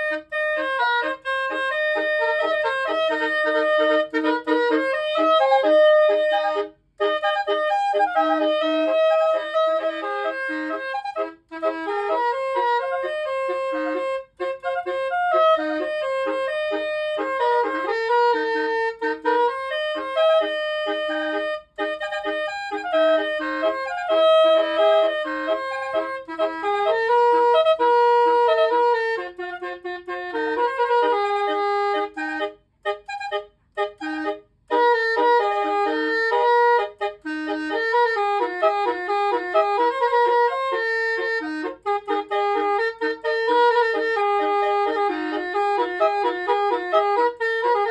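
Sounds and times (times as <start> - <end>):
multi-note vehicle horn melody: 0.0 - 47.9.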